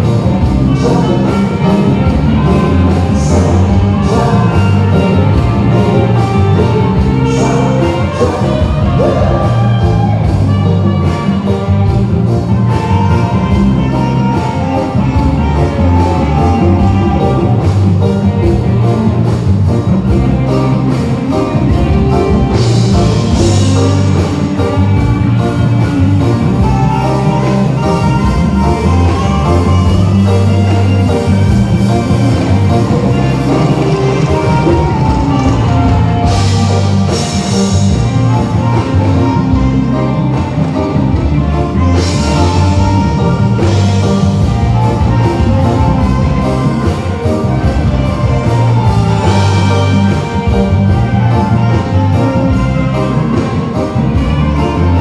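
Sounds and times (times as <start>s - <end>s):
loud music with heavy bass: 0.0s - 55.0s.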